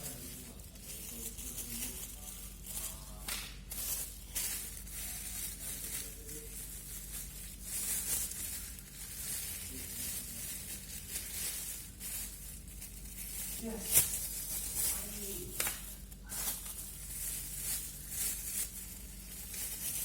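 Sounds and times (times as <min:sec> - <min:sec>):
faint low hum: 0:00.0 - 0:20.0
packaging rustling and crinkling: 0:00.0 - 0:20.0.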